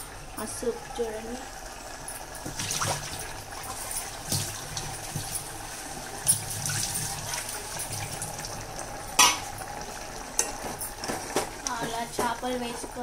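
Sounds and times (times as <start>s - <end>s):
gravy bubbling: 0.0s - 13.0s.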